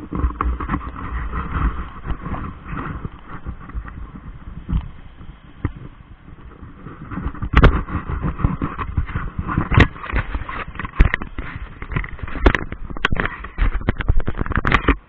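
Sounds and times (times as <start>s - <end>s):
water slapping against raft: 0.0s - 15.0s.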